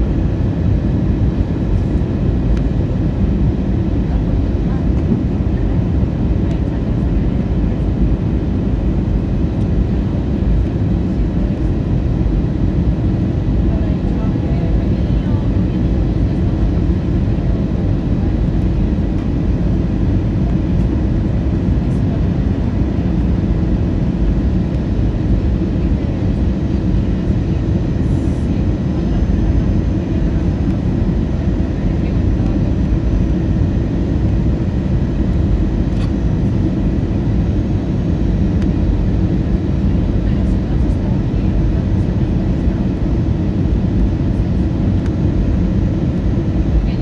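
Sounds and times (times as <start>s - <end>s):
jet engines rumbling: 0.0s - 47.0s.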